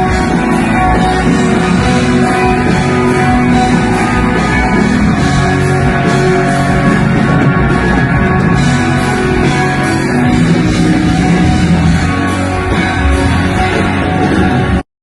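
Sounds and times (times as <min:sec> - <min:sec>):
live rock band music: 0:00.0 - 0:14.8.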